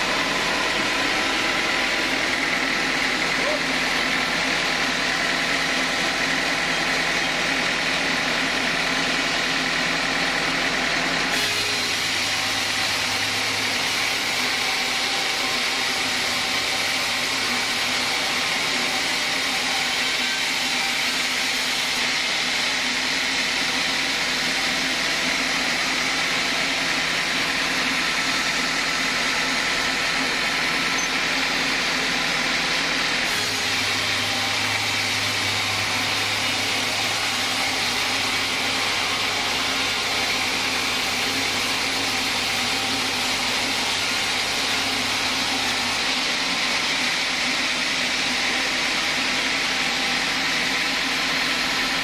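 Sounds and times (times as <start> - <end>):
band saw cutting log: 0.0 - 52.0.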